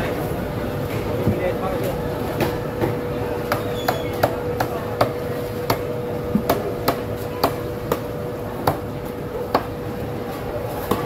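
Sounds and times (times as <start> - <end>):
market background noise: 0.0 - 11.0.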